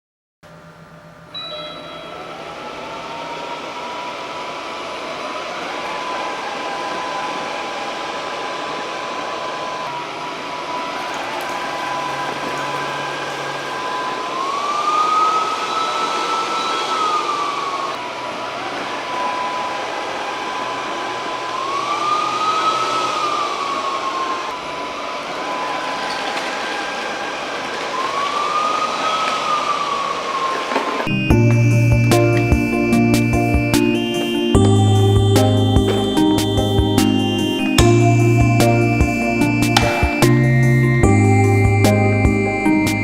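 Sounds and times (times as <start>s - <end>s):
robot vacuum whirring: 1.3s - 43.0s.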